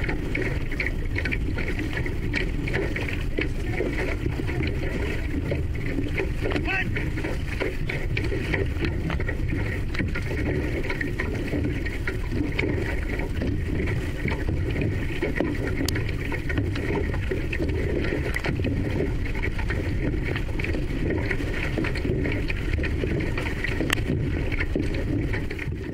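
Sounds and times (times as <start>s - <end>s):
light water splashes: 0.0s - 25.9s
water rushing along hull: 0.0s - 25.9s.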